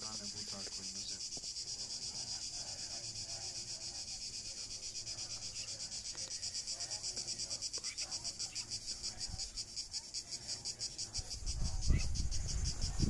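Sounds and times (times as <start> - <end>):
cicadas buzzing: 0.0 - 13.0
faint murmuring voices: 0.0 - 13.0.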